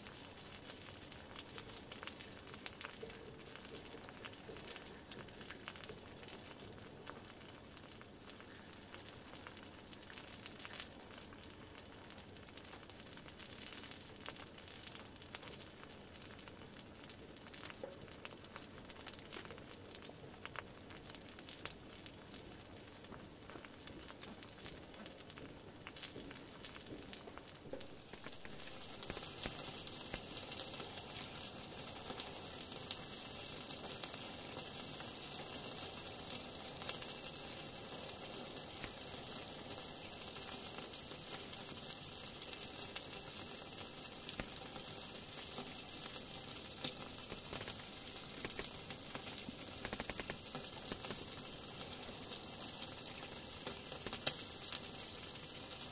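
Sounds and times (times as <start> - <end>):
meat sizzling in a pan: 0.0 - 55.9
wood fire crackling and popping: 0.0 - 55.9.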